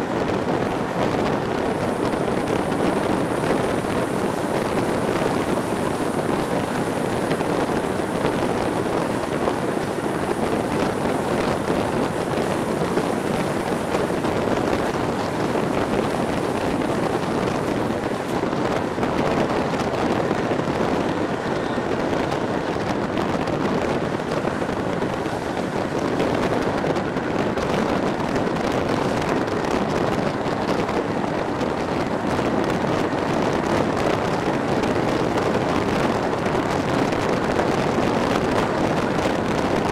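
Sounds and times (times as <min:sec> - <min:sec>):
train wheels rumbling on rails: 0:00.0 - 0:39.9
wind buffeting microphone: 0:00.0 - 0:39.9.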